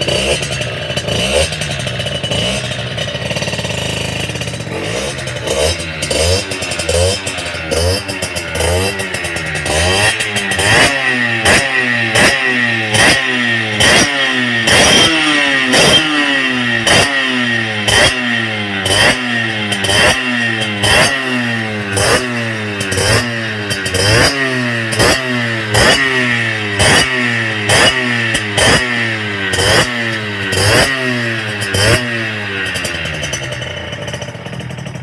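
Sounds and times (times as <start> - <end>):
two-stroke engine revving: 0.0 - 35.0.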